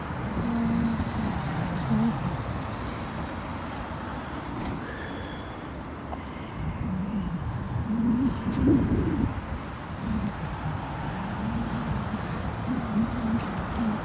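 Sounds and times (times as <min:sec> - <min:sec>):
traffic rumble of engines and tyres: 0:00.0 - 0:14.0.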